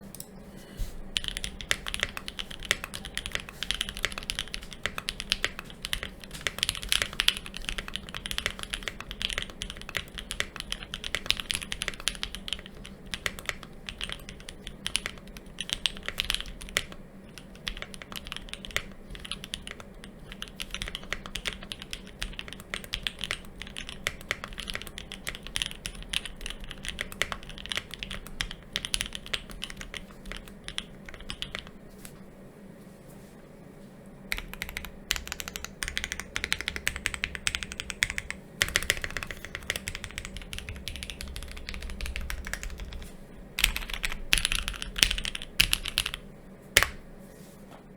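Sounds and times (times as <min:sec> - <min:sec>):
mechanical keyboard typing: 0:01.2 - 0:31.8, 0:34.3 - 0:46.2, 0:46.8 - 0:47.0.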